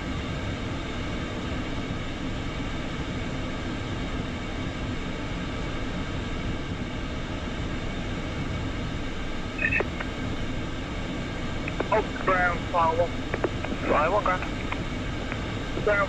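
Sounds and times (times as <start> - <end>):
faint turbine whine: 0.0 - 16.0
jet engines idling rumble: 0.0 - 16.0.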